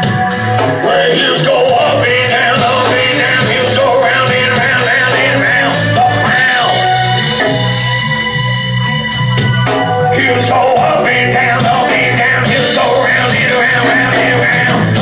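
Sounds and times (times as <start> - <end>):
person singing rock song: 0.0 - 15.0
steady bass line: 0.0 - 15.0.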